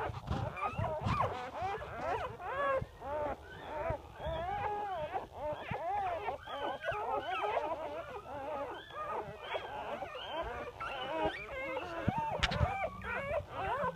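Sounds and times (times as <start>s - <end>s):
puppies whimpering and squealing: 0.0s - 13.9s.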